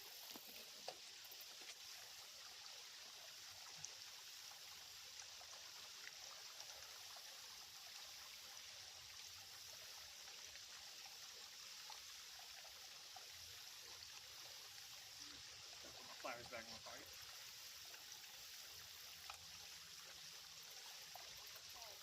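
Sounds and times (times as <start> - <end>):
faint creek water trickling: 0.0 - 22.0.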